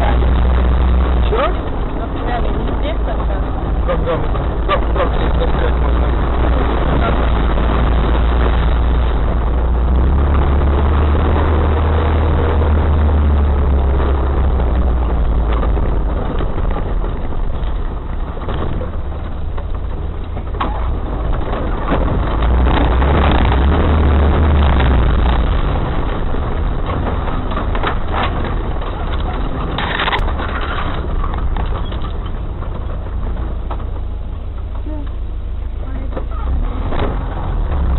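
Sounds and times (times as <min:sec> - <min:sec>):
knocks and rattles: 0:00.0 - 0:37.9
off-road vehicle engine: 0:00.0 - 0:37.9.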